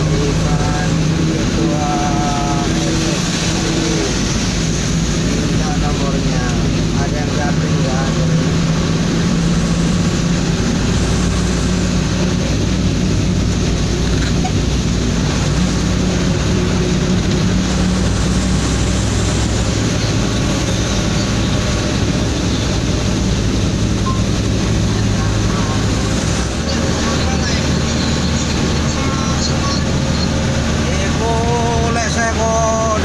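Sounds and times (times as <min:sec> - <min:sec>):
road noise: 0:00.0 - 0:33.0
truck engine running: 0:00.0 - 0:33.0.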